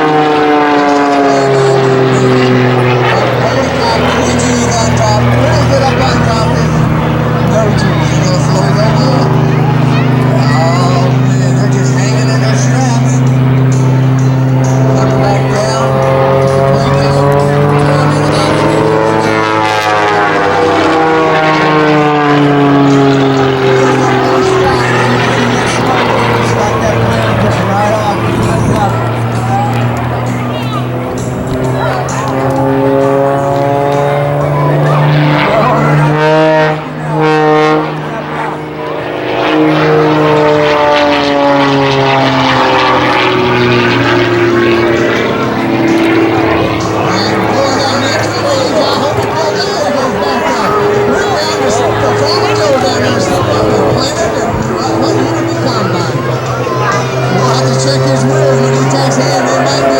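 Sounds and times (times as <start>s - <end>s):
propeller airplane engine passing: 0.0s - 59.9s.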